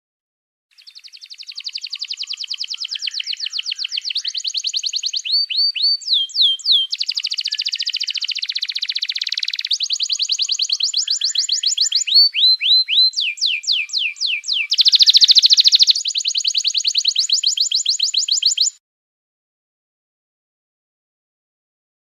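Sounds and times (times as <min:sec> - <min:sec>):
songbird singing trills: 0:00.7 - 0:18.8.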